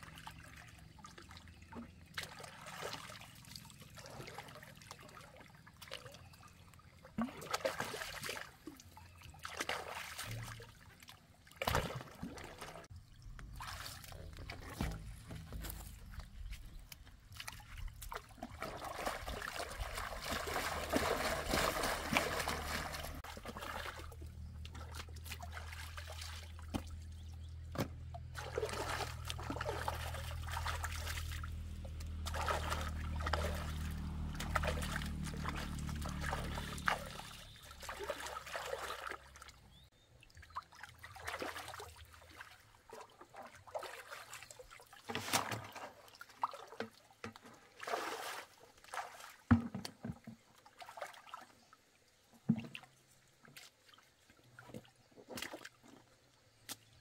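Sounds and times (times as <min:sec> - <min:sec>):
water splashing and trickling: 0:00.0 - 0:57.0.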